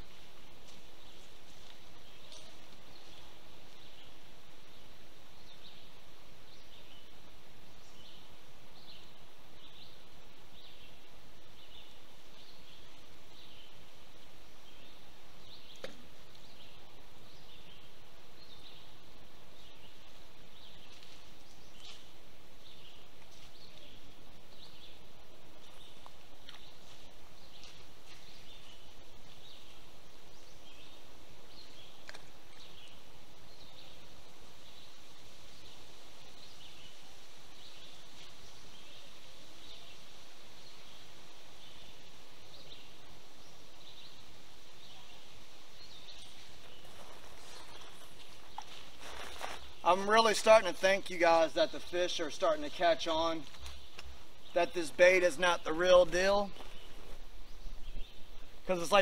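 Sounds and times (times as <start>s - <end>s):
steady creek hiss: 0.0s - 59.0s.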